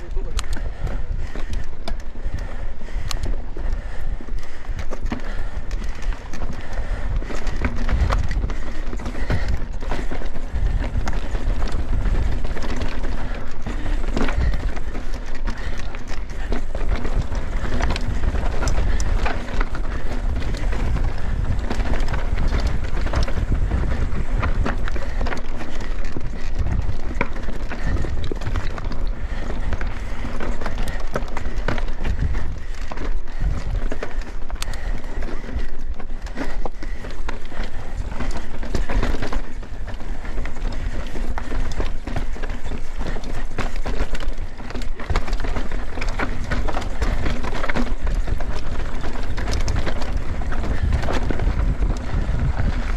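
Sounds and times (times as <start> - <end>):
bike rattling and knocking: 0.0 - 52.9
bike tyres rolling over stones: 0.0 - 52.9
wind buffeting microphone: 0.0 - 52.9.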